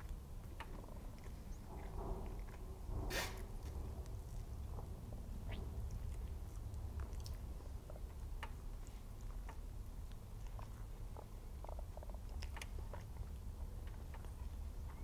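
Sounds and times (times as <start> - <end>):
soft wet chewing: 0.0 - 15.0
steady low hum: 0.0 - 15.0.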